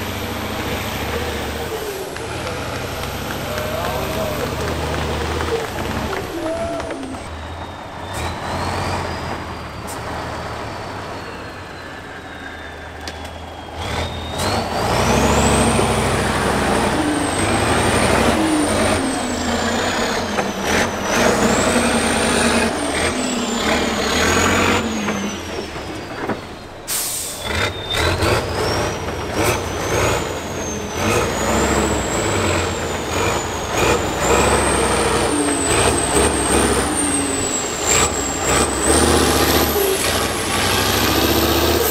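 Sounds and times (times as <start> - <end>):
diesel truck engine revving: 0.0 - 41.9.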